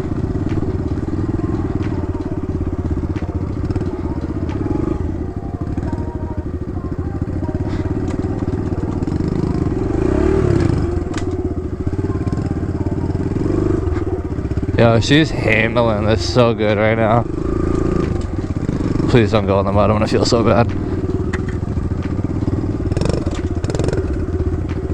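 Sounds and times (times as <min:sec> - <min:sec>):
dirt bike engine revving: 0:00.0 - 0:24.9.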